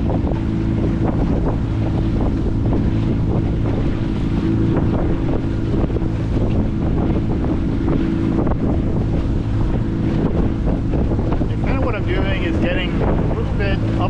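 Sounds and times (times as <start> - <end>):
outboard motor running: 0.0 - 14.0
wind buffeting microphone: 0.0 - 14.0.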